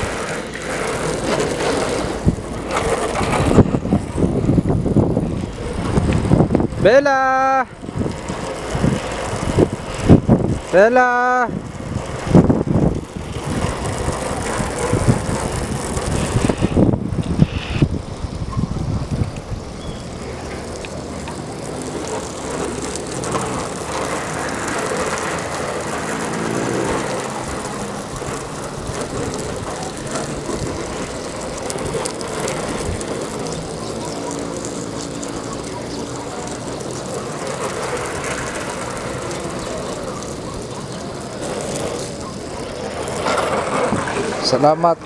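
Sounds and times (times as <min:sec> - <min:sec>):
gusty noise: 0:00.0 - 0:45.0
vehicle engine hum: 0:00.0 - 0:45.0.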